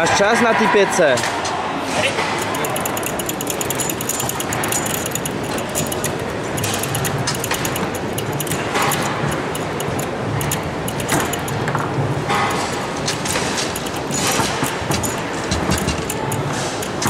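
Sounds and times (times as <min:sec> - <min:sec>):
foosball rods clicking rattle: 0:02.2 - 0:17.0
ball clacking against plastic: 0:02.4 - 0:17.0.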